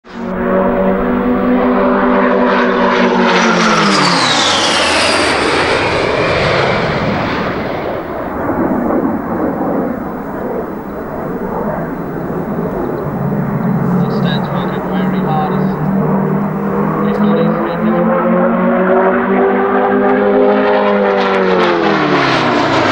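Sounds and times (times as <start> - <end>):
jet flying past: 0.0 - 22.9.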